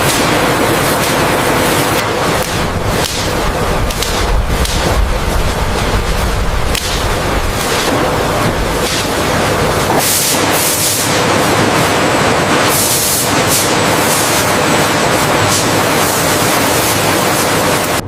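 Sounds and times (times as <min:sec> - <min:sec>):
spray hissing: 0:00.0 - 0:18.0.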